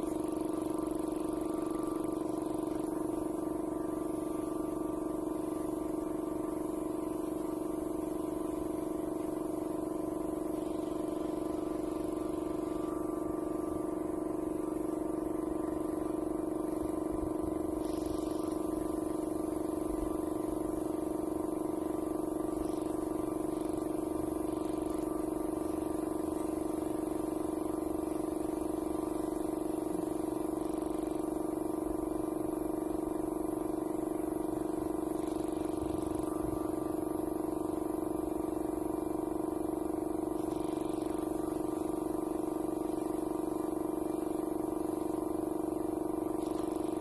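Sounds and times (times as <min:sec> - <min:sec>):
air compressor running: 0:00.0 - 0:47.0.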